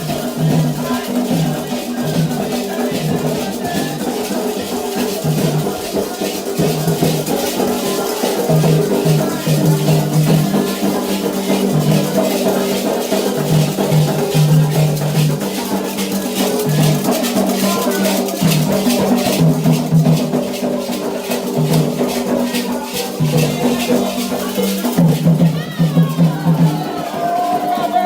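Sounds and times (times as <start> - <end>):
hand drums: 0.0 - 28.0
people chanting: 0.0 - 28.0.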